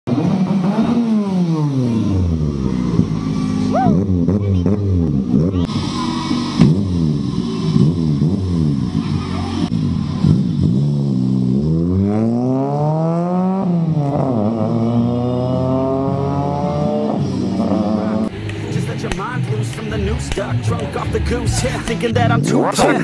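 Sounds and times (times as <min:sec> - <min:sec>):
car accelerating through gears: 0:00.1 - 0:22.9
car engine revving: 0:00.1 - 0:23.0.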